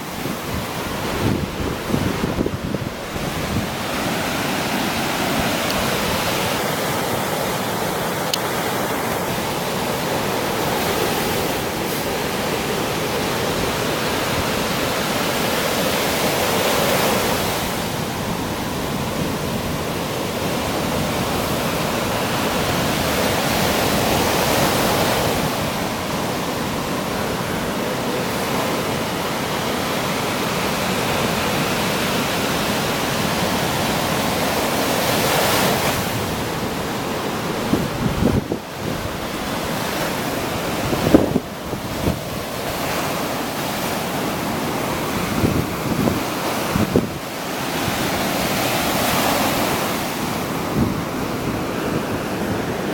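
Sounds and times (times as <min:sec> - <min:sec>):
waves breaking on beach: 0:00.0 - 0:52.9.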